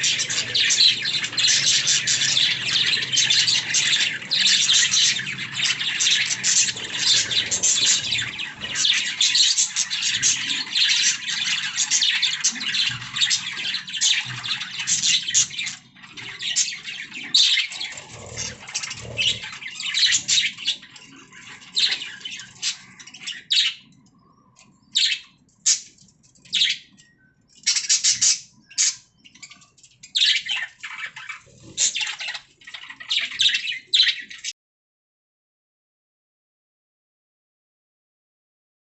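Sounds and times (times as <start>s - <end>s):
budgerigars chirping: 0.0s - 23.9s, 24.8s - 26.9s, 27.6s - 34.5s.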